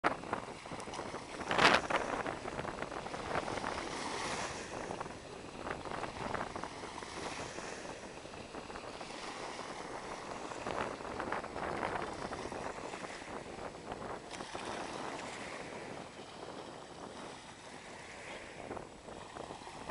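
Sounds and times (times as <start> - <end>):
wind buffeting microphone: 0.0 - 19.9
waves washing onto sandy beach: 0.1 - 19.9.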